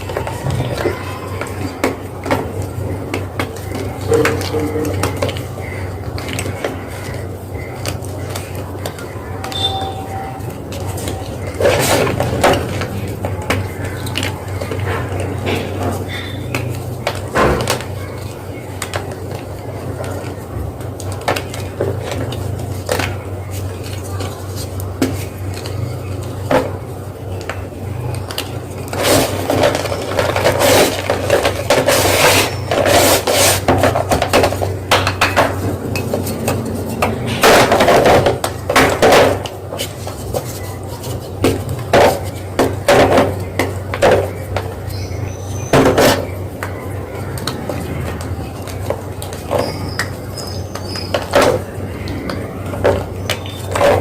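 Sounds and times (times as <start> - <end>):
steady low hum: 0.0 - 50.4.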